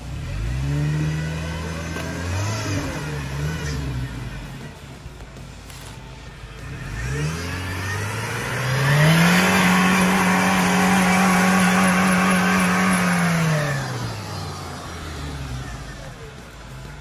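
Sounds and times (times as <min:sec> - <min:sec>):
engine revving to rev limiter: 0:00.0 - 0:04.7, 0:06.5 - 0:16.3.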